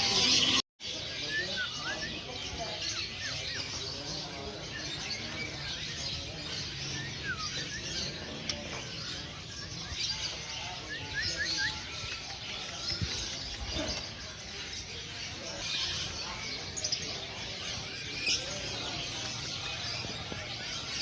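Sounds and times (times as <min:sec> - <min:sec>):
songbirds chirping and twittering: 0:00.0 - 0:21.0.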